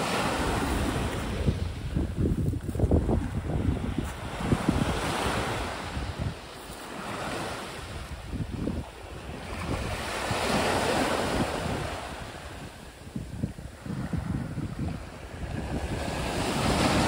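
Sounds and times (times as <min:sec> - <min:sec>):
waves washing up pebbly beach: 0:00.0 - 0:12.8, 0:13.8 - 0:17.0
wind buffeting microphone: 0:00.0 - 0:17.0.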